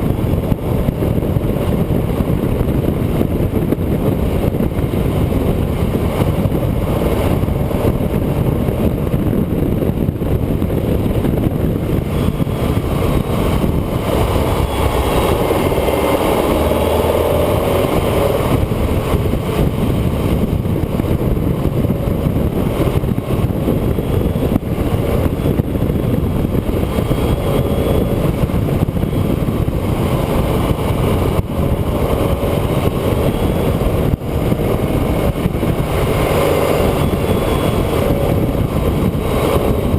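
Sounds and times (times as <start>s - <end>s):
road and wind noise: 0.0s - 39.9s
vehicle engine running: 0.0s - 39.9s.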